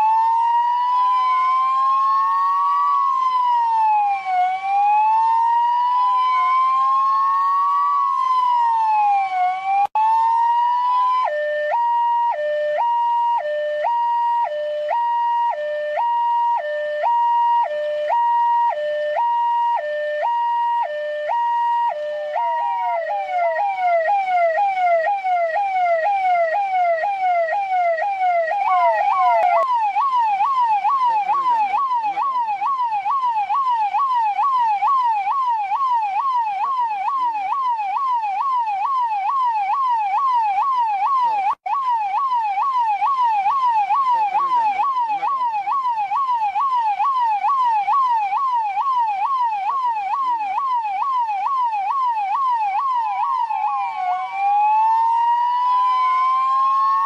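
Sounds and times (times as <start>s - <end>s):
police siren sweeping: 0.0s - 57.0s.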